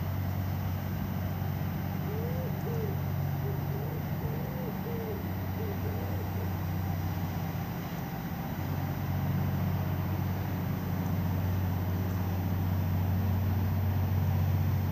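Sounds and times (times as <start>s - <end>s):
ship engines droning: 0.0s - 14.9s.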